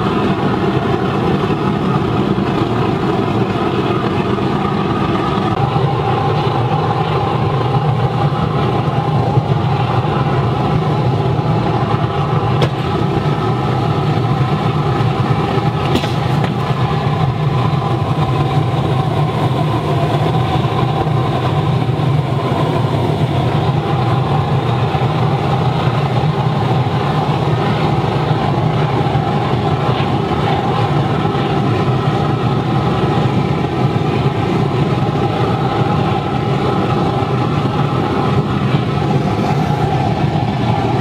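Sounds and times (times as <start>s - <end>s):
oil burner and blower rumbling: 0.0s - 41.0s.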